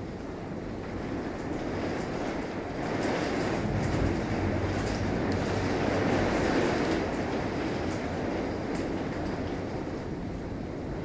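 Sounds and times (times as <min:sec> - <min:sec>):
heavy rain pouring: 0:00.0 - 0:11.0
rolling thunder rumble: 0:00.8 - 0:11.0.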